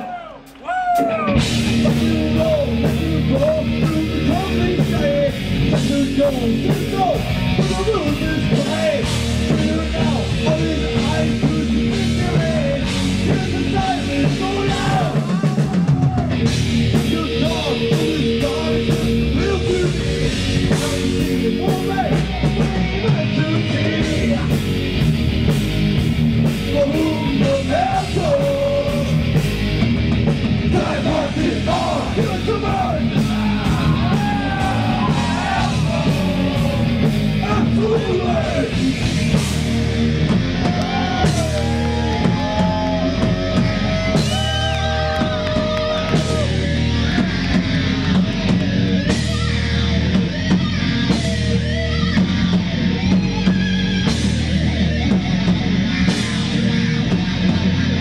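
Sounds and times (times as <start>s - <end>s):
singer singing and yelling: 0.0s - 25.6s, 26.4s - 58.0s
heavy metal band playing: 0.0s - 58.0s.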